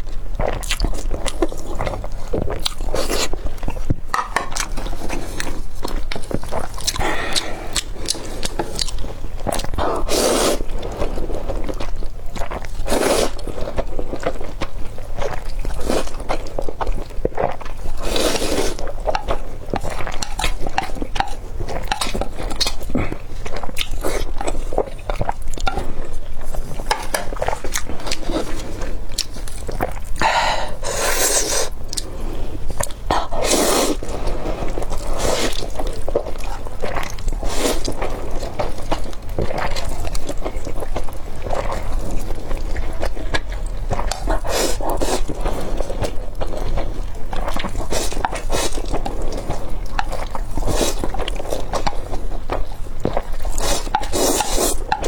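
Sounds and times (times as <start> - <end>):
chewing noodles: 0.1 - 55.0.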